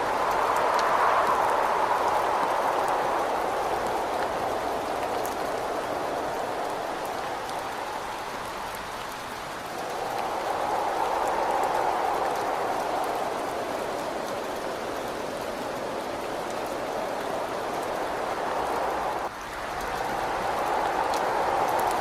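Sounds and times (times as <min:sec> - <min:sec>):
gusting wind: 0:00.0 - 0:22.0
raindrop ticks: 0:00.0 - 0:22.0
steady rain: 0:00.0 - 0:22.0.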